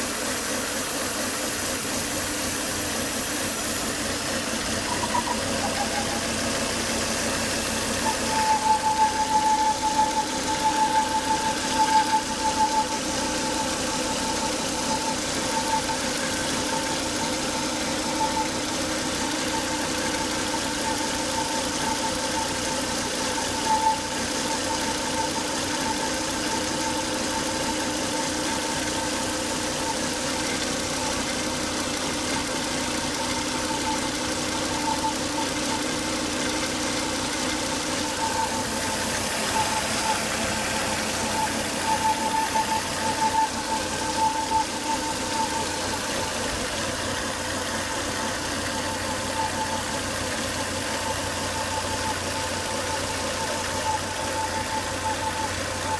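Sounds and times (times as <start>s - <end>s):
car engine running: 0.0s - 55.9s
high-pitched whine: 0.0s - 55.9s.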